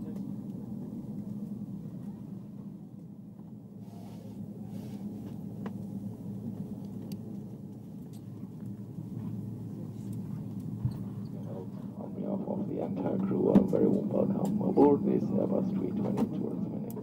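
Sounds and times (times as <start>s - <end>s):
aircraft cabin ventilation hum: 0.0s - 17.0s.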